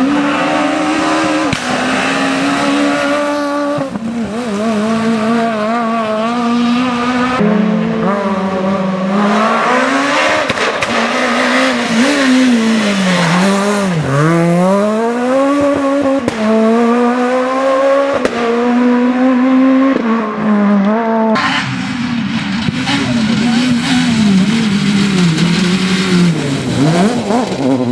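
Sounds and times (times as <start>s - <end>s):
rally car engine revving high: 0.0s - 27.9s.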